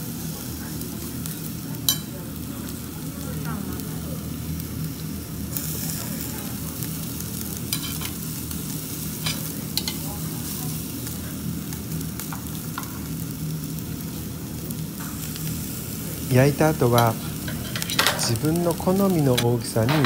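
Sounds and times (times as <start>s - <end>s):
meat sizzling on a grill: 0.0s - 20.0s.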